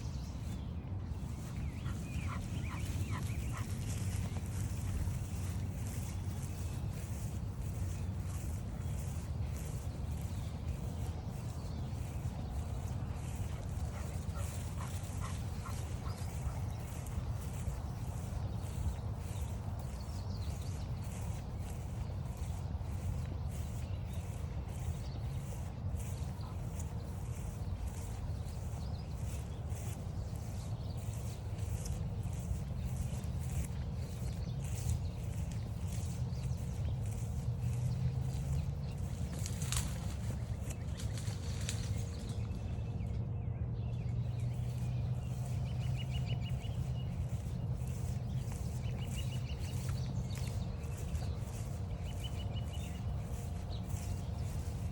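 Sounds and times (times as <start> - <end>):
footsteps crunching on trail: 0.0 - 43.1, 44.3 - 54.9
steady low rumble: 0.0 - 54.9.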